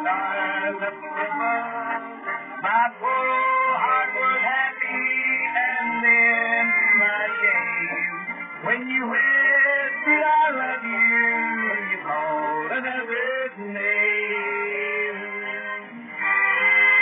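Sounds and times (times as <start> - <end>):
man singing: 0.0 - 16.0
band backing music: 0.0 - 17.0.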